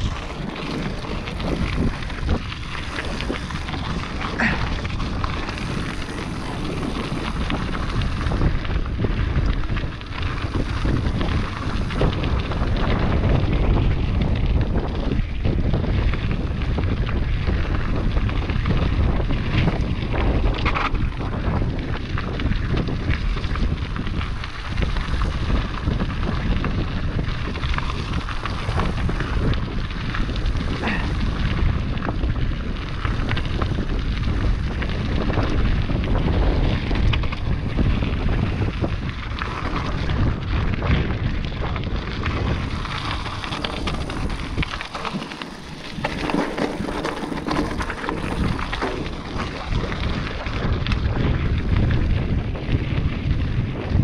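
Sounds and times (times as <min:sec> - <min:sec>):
bike rattling over rocks and gravel: 0:00.0 - 0:54.0
wind buffeting microphone: 0:00.0 - 0:54.0.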